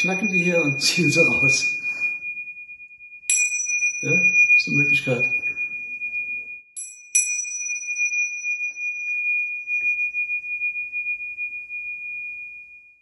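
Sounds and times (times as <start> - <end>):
small cymbals ringing: 0.0 - 13.0.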